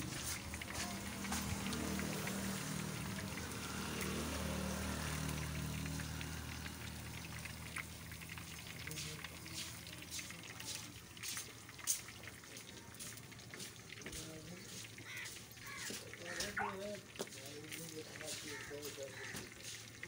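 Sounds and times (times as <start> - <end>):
fish sizzling in hot oil: 0.0 - 20.0
oil crackling and popping: 0.0 - 20.0.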